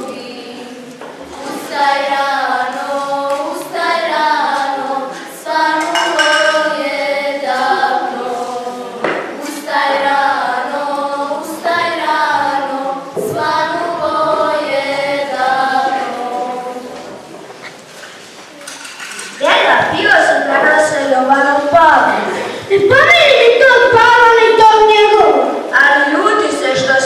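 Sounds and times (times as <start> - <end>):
girls singing unaccompanied: 0.0 - 27.0.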